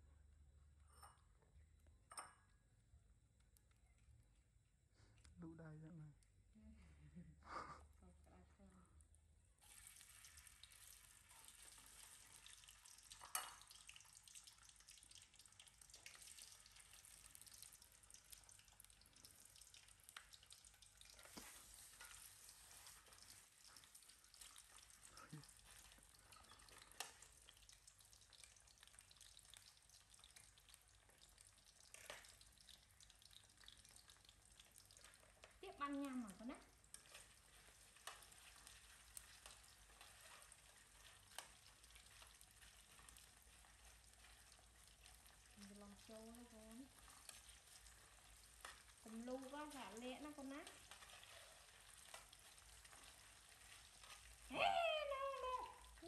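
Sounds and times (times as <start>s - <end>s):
potatoes sizzling in oil: 9.6s - 56.0s.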